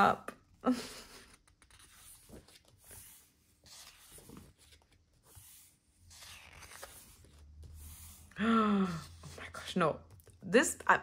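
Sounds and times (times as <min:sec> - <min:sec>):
book pages turning: 0:01.1 - 0:10.4.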